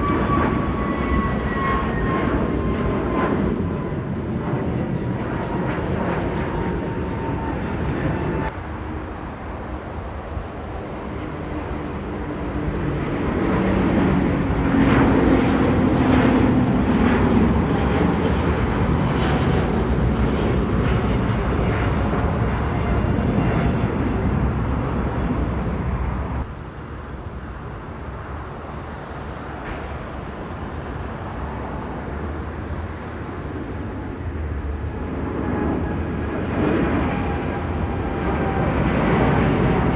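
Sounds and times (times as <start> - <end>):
jet airliner passing: 0.0 - 39.9
jet engine whine: 0.0 - 39.9.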